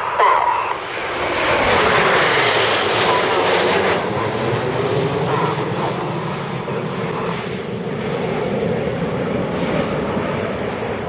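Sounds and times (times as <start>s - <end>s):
jets roaring past: 0.0s - 11.0s.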